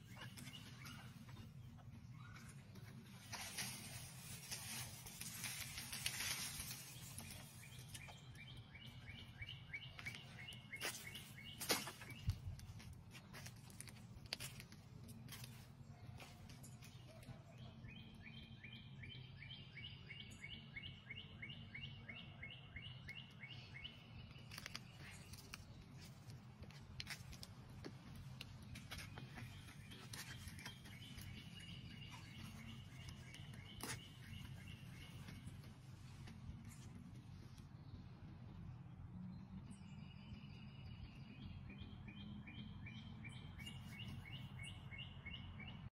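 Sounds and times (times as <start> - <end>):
bird chirping: 0.0 - 12.8, 15.2 - 45.9
low background hum: 0.0 - 45.9.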